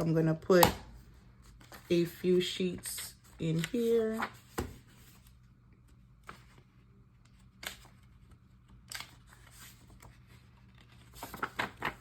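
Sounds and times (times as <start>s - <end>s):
paper rustling: 1.4s - 12.0s.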